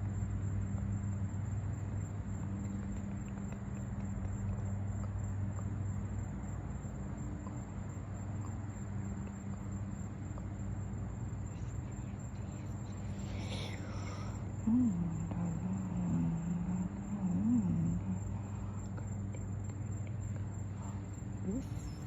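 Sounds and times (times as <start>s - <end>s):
faint insects: 0.0s - 22.0s
steady low hum: 0.0s - 22.0s.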